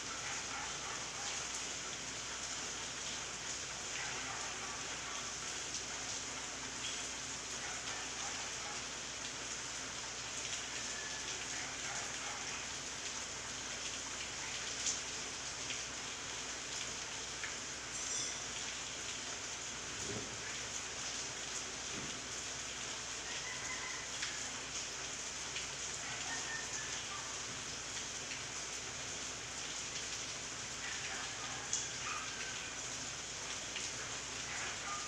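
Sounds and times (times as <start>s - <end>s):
heavy rain on leaves: 0.0s - 35.0s.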